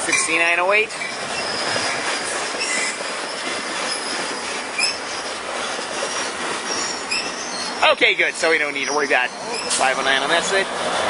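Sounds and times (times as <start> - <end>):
high train squeals: 0.0 - 11.0
train wheels rumbling on rail: 0.0 - 11.0.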